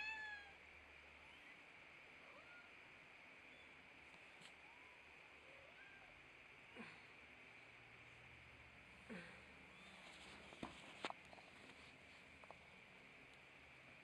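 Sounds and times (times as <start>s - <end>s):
steady hiss: 0.2s - 14.0s.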